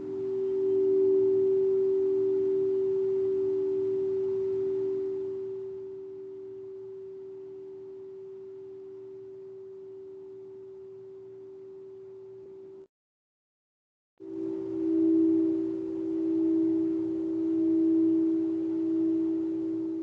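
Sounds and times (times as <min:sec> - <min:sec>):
sound bath instrument ringing: 0:00.0 - 0:12.5, 0:14.2 - 0:20.0.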